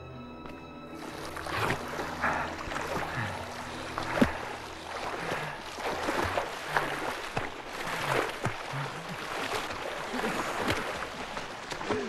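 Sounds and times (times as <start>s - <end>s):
swimming splashes: 1.0s - 12.0s.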